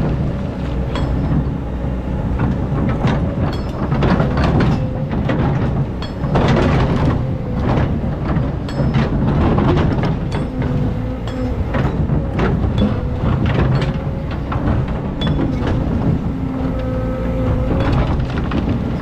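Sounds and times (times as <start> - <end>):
metallic rattling and scraping: 0.0 - 16.9
diesel engine under load: 0.0 - 19.0.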